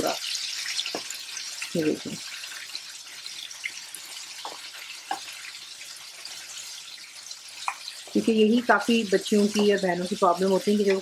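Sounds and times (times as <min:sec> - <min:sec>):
chicken wings deep-frying: 0:00.0 - 0:11.0.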